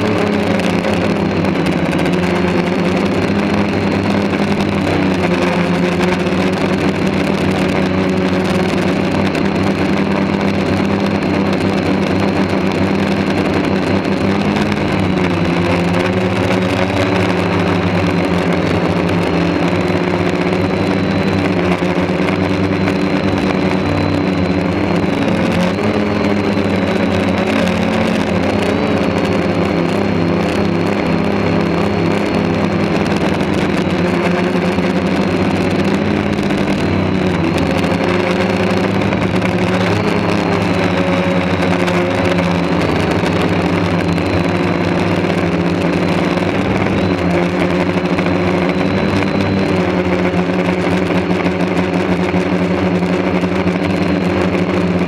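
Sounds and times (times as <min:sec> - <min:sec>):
drone propellers humming: 0:00.0 - 0:55.0.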